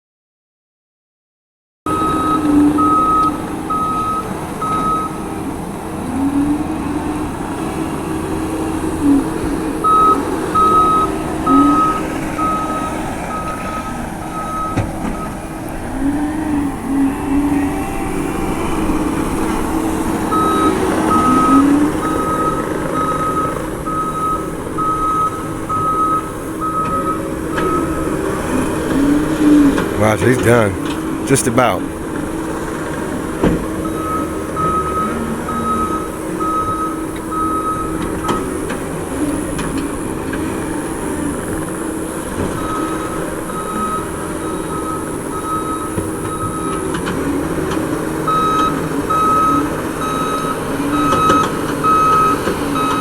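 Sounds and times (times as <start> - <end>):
reversing alarm beeping: 1.9 - 40.1, 41.0 - 53.0
diesel engine running under load: 1.9 - 53.0.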